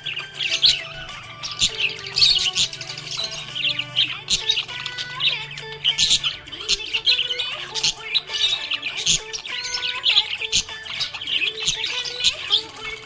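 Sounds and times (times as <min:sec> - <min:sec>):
budgerigar chirping and warbling: 0:00.0 - 0:13.0.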